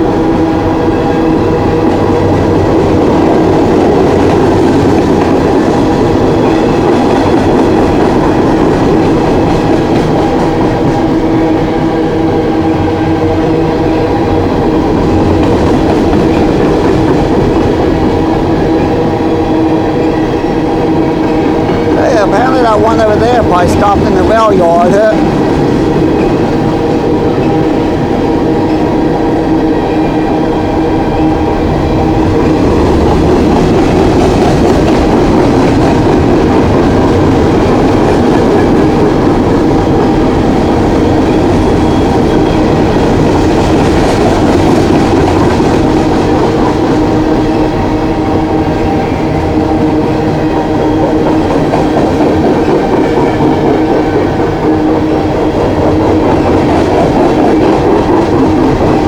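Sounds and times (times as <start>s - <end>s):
wheels ringing on rails: 0.0s - 59.0s
train wheels clicking over rail joints: 0.3s - 11.9s, 13.6s - 29.4s, 31.4s - 48.0s, 48.6s - 59.0s.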